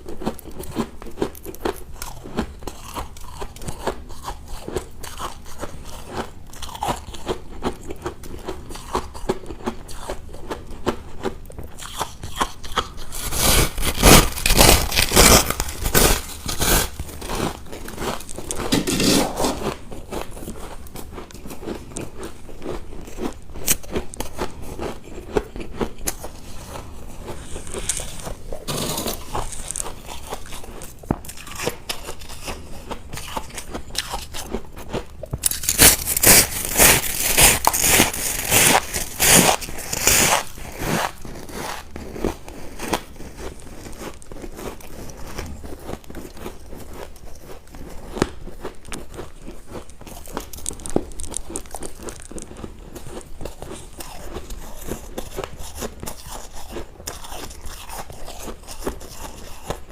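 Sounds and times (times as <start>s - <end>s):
ice crunching between teeth: 0.1s - 59.9s.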